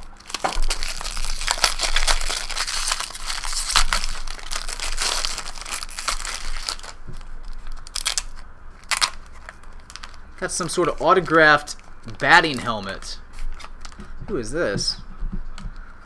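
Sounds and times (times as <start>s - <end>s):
wrapping crinkling: 0.0s - 14.2s.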